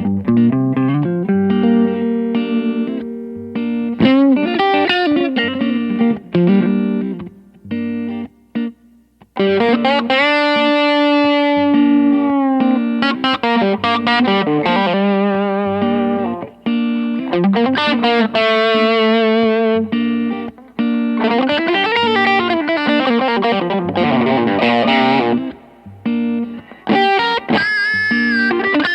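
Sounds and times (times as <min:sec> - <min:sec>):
overdriven electric guitar licks: 0:00.0 - 0:28.9.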